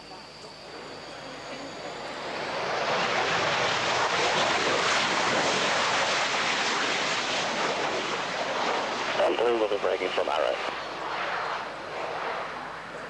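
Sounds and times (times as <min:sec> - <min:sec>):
jet engine roar on runway: 0:00.0 - 0:13.0.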